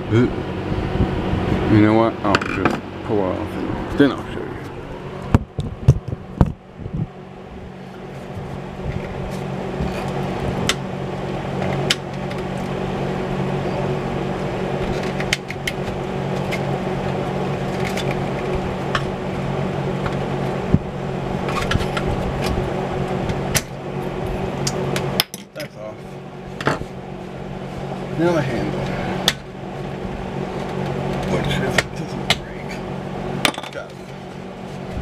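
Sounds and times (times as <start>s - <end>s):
machine hum with low drone: 0.0s - 35.0s.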